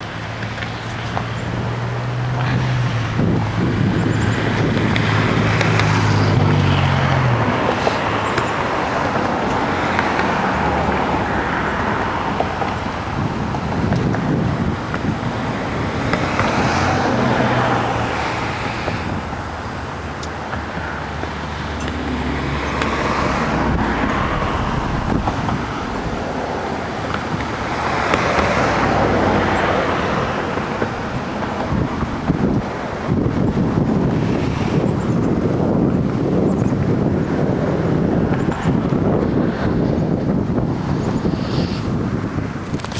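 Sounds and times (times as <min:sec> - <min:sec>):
strong gusty wind: 0:00.0 - 0:42.9.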